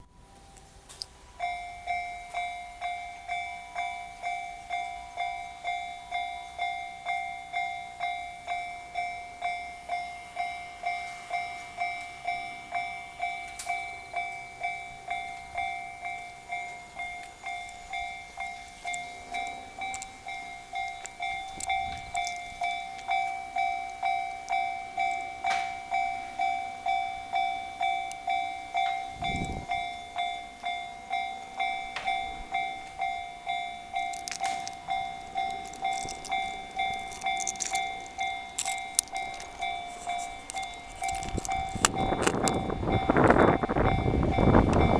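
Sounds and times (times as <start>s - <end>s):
level-crossing alarm dings: 0.0s - 44.9s.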